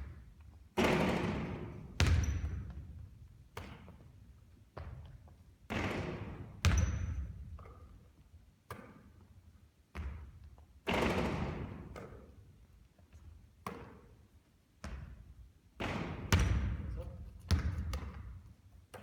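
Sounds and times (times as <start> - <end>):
basketballs thudding on gym court: 0.0 - 7.8, 9.9 - 12.4, 13.2 - 14.1, 14.8 - 19.0.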